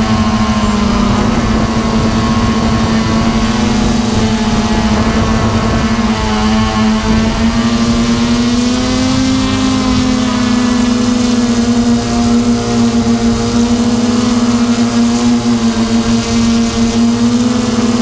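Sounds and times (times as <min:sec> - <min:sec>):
drone propellers humming: 0:00.0 - 0:18.0.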